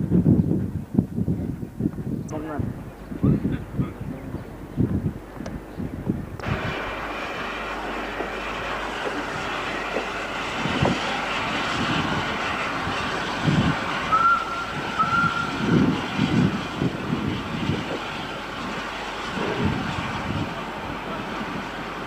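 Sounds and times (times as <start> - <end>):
steam train rumbling: 0.0 - 22.0
wind on microphone: 0.0 - 22.0.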